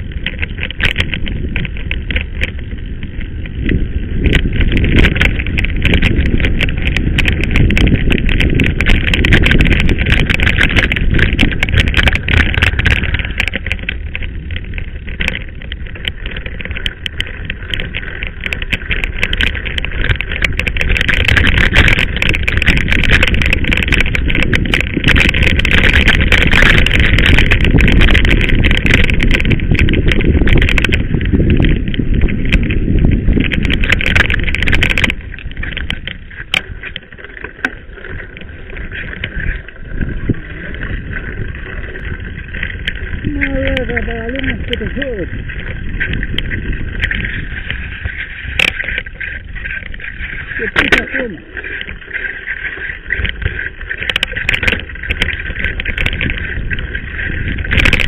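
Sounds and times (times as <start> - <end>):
bike rattling over bumps: 0.0 - 58.0
wind rumble on microphone: 0.0 - 58.0.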